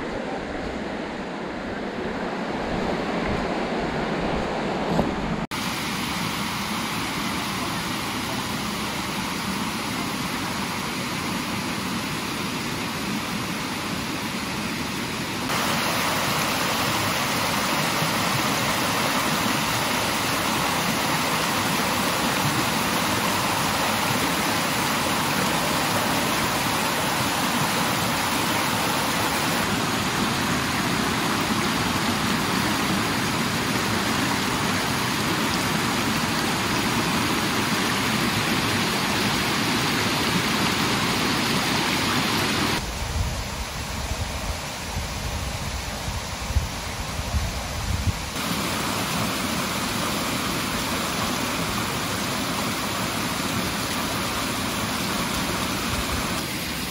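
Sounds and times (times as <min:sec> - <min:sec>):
stream water rushing: 0:00.0 - 0:56.9.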